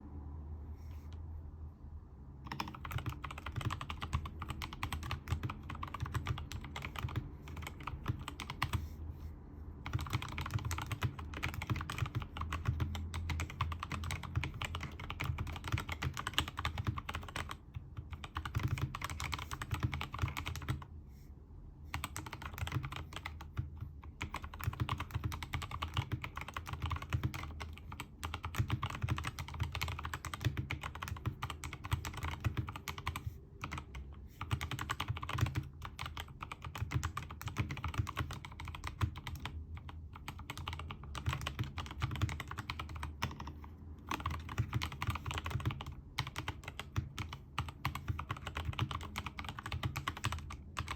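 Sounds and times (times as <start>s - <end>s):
typing on mechanical keyboard: 2.4s - 8.9s, 9.8s - 20.9s, 21.9s - 50.9s.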